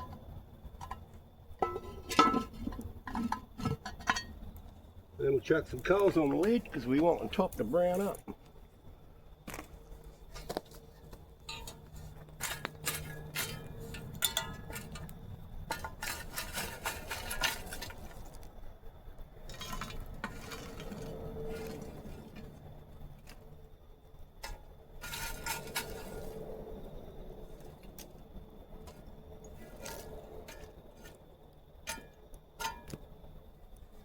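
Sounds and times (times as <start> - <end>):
shovel scraping coals: 0.0 - 4.7, 5.3 - 8.4, 9.5 - 18.5, 19.4 - 23.6, 24.3 - 33.2.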